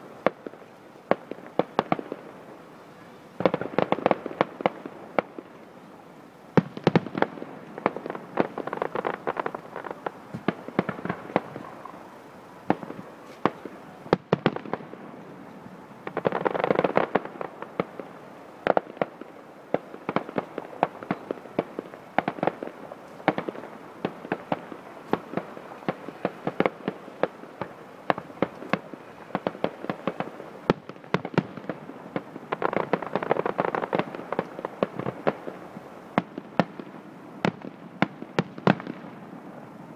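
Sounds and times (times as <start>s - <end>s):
fireworks bangs and crackles: 0.0s - 5.8s, 6.5s - 39.9s.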